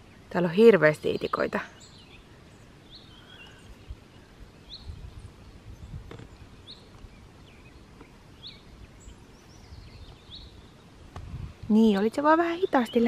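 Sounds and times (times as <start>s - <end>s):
small bird chirping: 0.0s - 11.1s.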